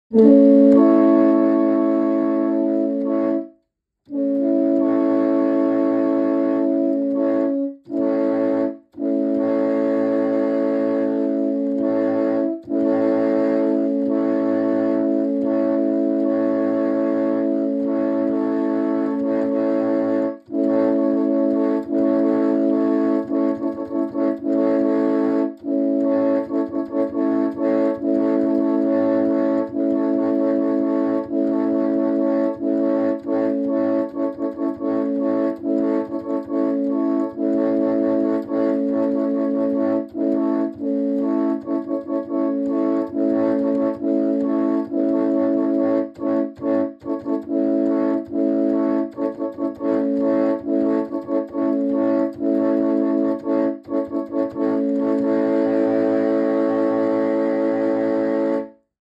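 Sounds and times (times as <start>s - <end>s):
train air horn chord: 0.1s - 58.9s.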